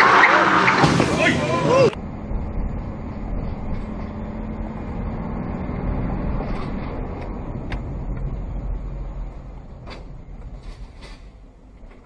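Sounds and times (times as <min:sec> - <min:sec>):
vehicle rumbling along road: 0:00.0 - 0:12.0.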